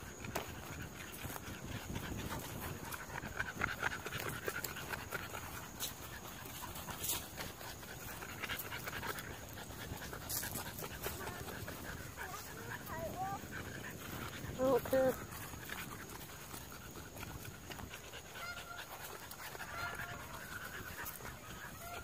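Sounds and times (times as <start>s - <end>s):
puppy panting rapidly: 0.0s - 22.0s.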